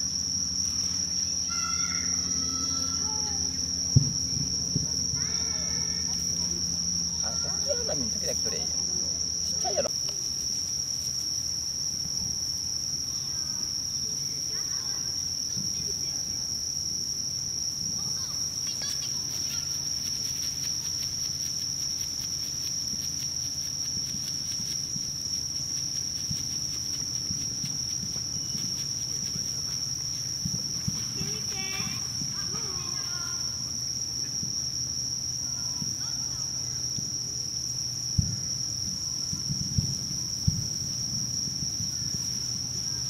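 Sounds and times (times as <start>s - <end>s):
crickets trilling: 0.0s - 43.0s
faint low hum: 0.0s - 43.0s.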